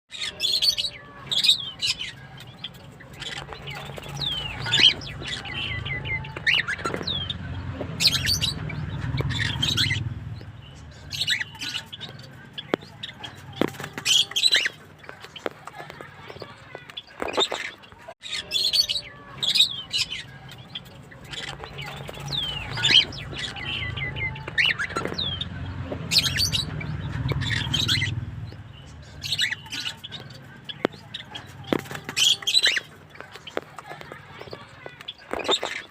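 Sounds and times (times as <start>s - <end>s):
cockatiel chirping and calling: 0.1s - 35.9s.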